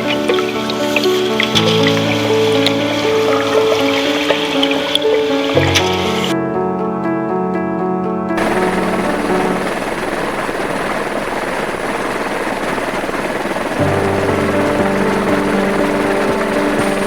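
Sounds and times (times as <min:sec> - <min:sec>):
fluttering engine noise: 0:00.0 - 0:06.4, 0:08.4 - 0:17.0
background music sustained chords: 0:00.0 - 0:17.0.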